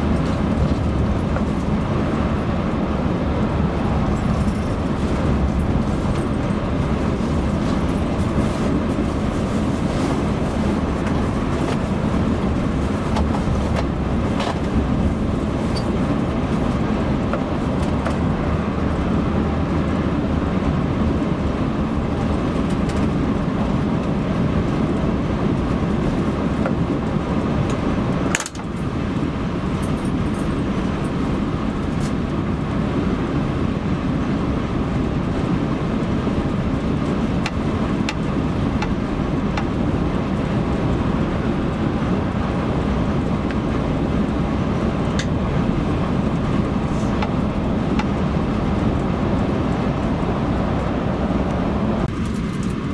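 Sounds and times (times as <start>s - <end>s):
car engine running: 0.0s - 52.9s
tyre road noise: 0.0s - 52.9s.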